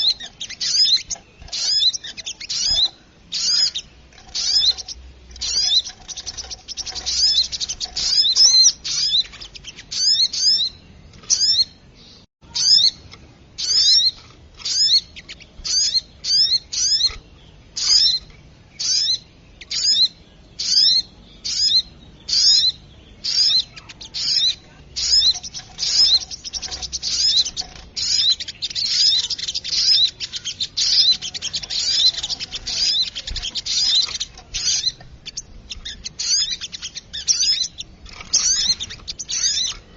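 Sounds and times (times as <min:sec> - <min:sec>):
bird chirping high: 0:00.0 - 0:39.9.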